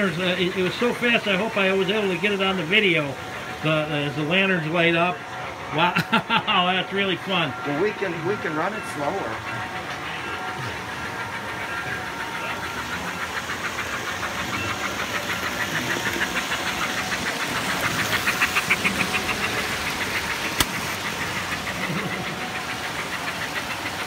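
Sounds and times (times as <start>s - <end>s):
toy handcar clicking along track: 0.0s - 24.0s.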